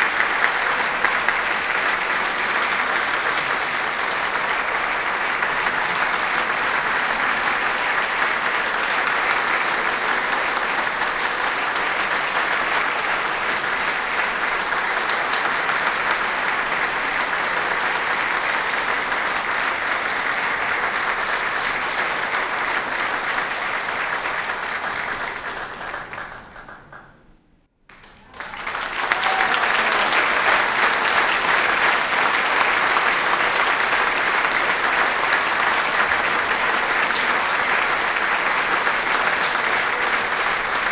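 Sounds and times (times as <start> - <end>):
audience applauding: 0.0 - 27.3, 27.9 - 40.9.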